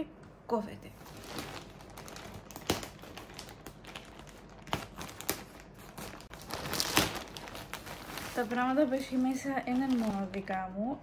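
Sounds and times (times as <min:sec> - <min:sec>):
plastic bag crinkling: 0:01.0 - 0:10.7.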